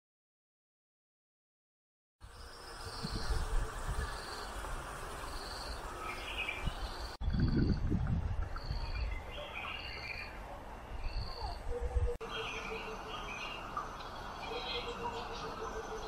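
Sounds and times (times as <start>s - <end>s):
outdoor background noise: 2.2s - 16.0s
birds chirping: 2.3s - 16.0s.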